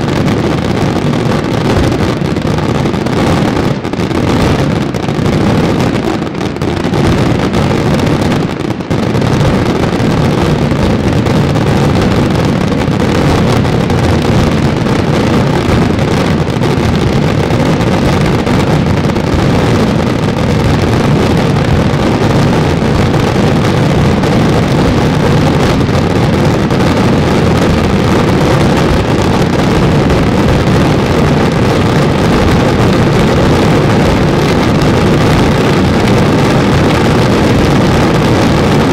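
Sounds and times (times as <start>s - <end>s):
fireworks crackling and rumbling: 0.0s - 38.9s.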